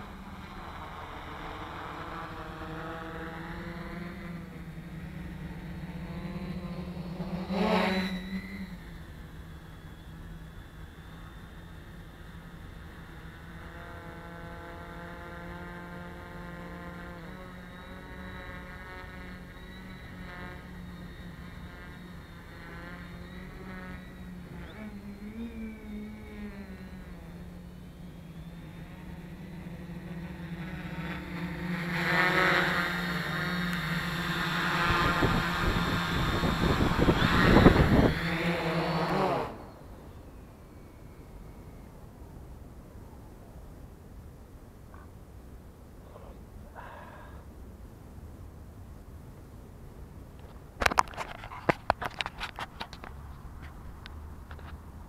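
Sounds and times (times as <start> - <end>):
drone propeller buzz: 0.0 - 43.2, 44.0 - 49.2
quadcopter motors humming: 0.0 - 55.0.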